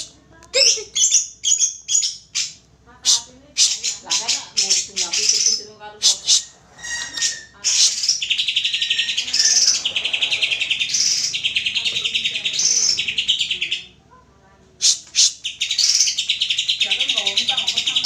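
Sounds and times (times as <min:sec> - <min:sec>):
bird singing trilled phrases: 0:00.0 - 0:14.0, 0:14.8 - 0:18.0.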